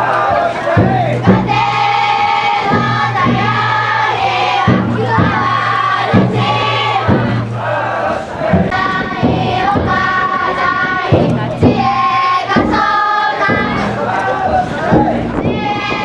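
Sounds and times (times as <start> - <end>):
group chanting in unison: 0.0 - 16.0
taiko drum strokes: 0.0 - 16.0.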